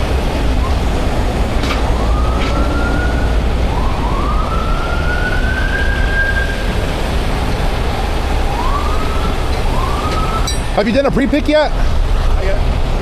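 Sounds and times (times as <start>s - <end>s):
high whine climbing in pitch: 0.0s - 11.0s
diesel engine rumble: 0.0s - 13.0s.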